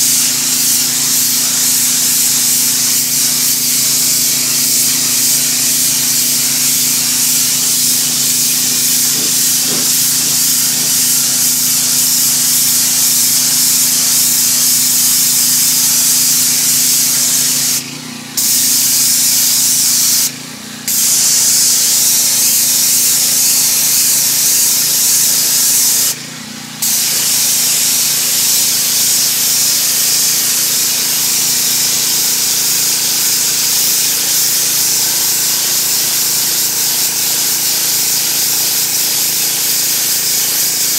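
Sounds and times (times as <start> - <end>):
pressure washer spraying concrete: 0.0 - 40.9.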